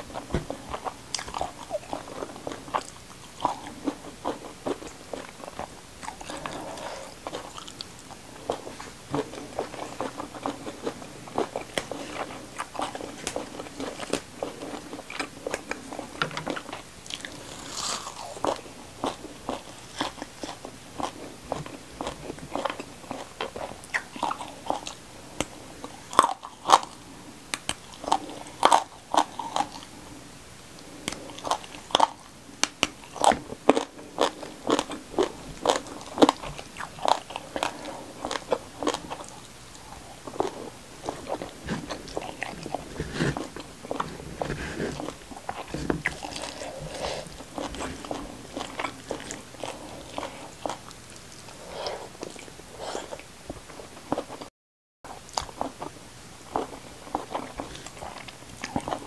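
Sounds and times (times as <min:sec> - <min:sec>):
chewing and crunching food: 0:00.0 - 0:54.5, 0:55.1 - 0:59.0.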